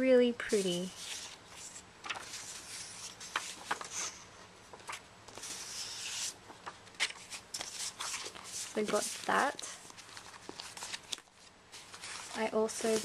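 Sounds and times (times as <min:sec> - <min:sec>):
paper rustling and sliding: 0:00.5 - 0:13.0.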